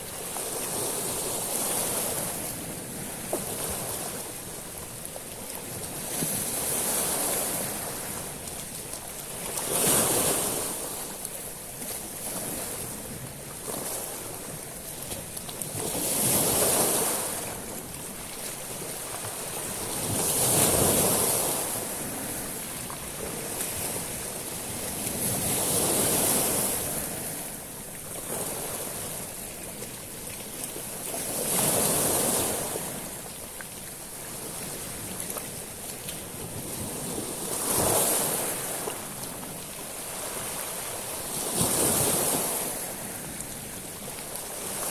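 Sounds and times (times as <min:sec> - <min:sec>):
waves rattling pebbles on beach: 0:05.6 - 0:14.6, 0:15.2 - 0:29.5, 0:30.4 - 0:33.2, 0:34.0 - 0:44.9.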